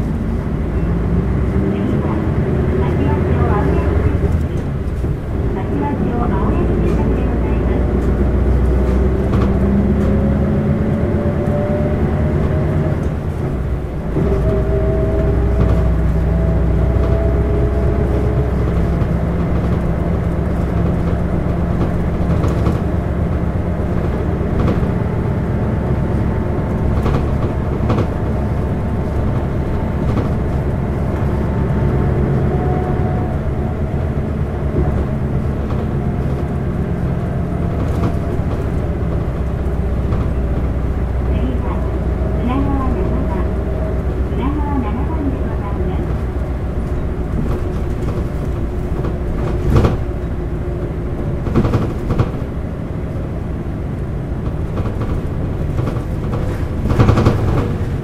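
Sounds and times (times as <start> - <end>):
bus diesel engine accelerating: 0.0 - 58.0.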